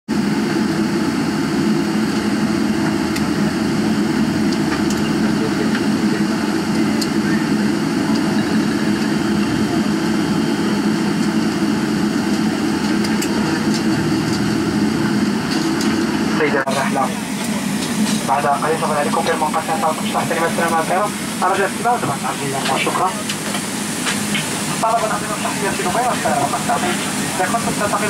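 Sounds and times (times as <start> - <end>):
jet engines idling: 0.1 - 28.0
air-conditioning hum: 0.2 - 28.0.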